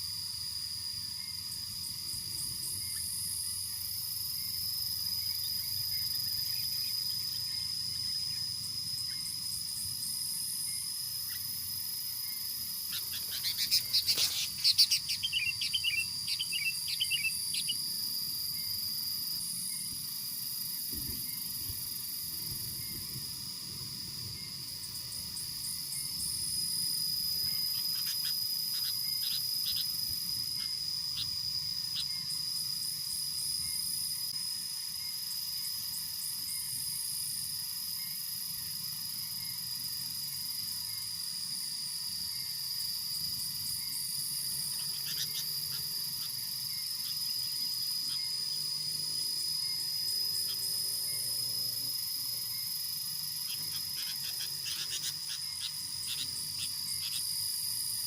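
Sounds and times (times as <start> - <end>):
crickets and insects droning: 0.0 - 58.0
pulsing insect hiss: 0.0 - 58.0.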